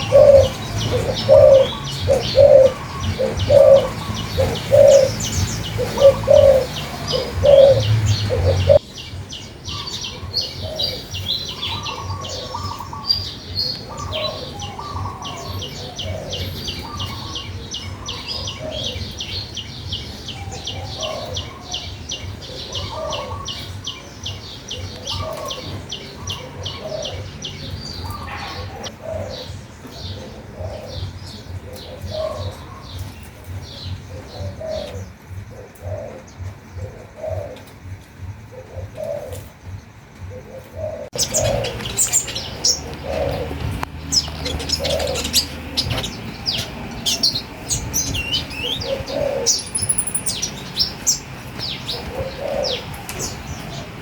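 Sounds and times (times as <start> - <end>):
lower repeated bird call: 0.0 - 39.6, 40.3 - 54.0
songbirds chirping: 0.0 - 54.0.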